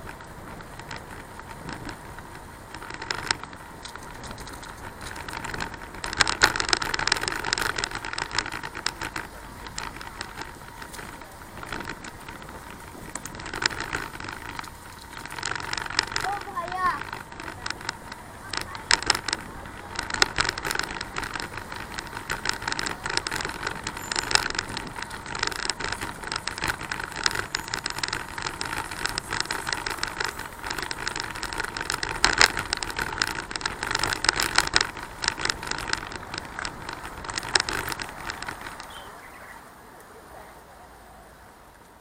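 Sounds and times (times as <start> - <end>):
bicycle rattling and clattering: 0.0 - 40.3, 41.5 - 42.0.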